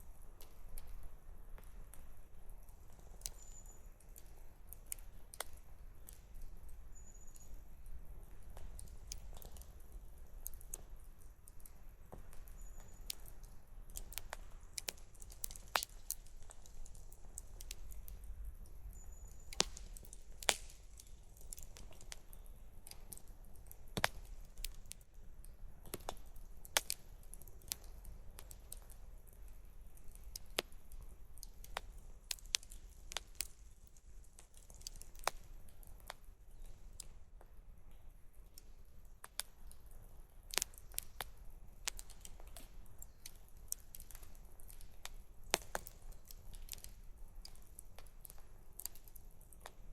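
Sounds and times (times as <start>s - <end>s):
campfire crackling: 0.1s - 49.9s.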